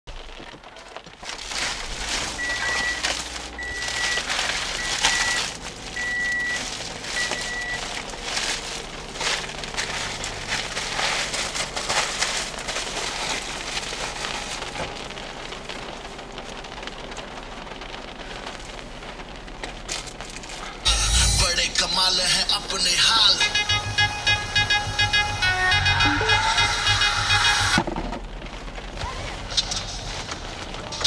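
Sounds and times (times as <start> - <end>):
heavy rain on hard surfaces: 0.1 - 31.0.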